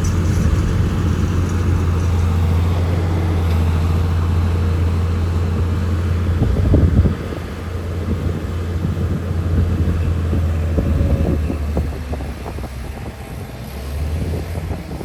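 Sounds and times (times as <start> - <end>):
diesel earthmoving machinery droning: 0.0 - 15.0.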